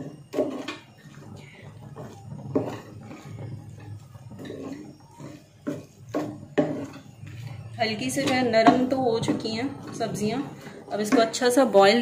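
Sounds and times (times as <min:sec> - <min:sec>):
wooden spoon scraping pot: 0:00.0 - 0:12.0.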